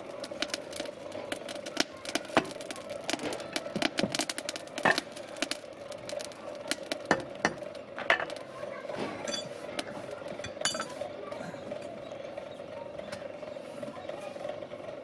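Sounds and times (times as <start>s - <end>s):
steady hum: 0.0s - 13.9s.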